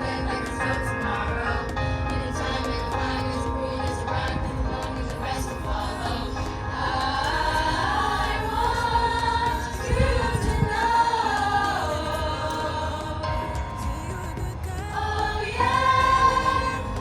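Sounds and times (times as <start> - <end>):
music with singing voices: 0.0 - 17.0.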